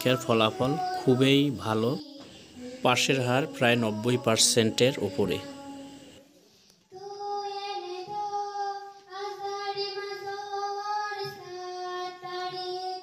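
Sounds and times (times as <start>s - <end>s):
child singing held notes: 0.0s - 13.0s.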